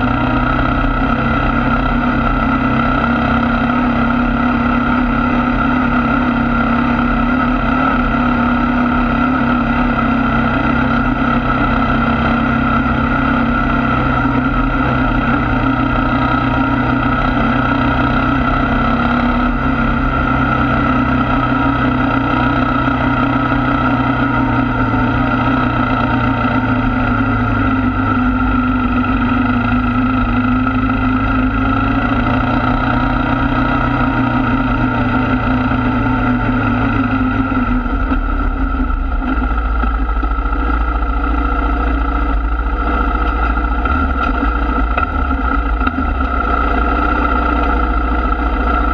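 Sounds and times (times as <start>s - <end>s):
atv engine droning: 0.0s - 48.9s.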